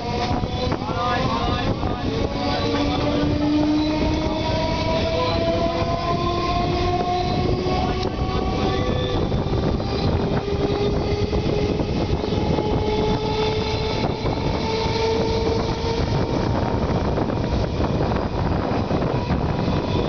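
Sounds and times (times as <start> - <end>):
train wheels rumbling on rails: 0.0 - 20.0
whine rising in pitch: 0.0 - 20.0.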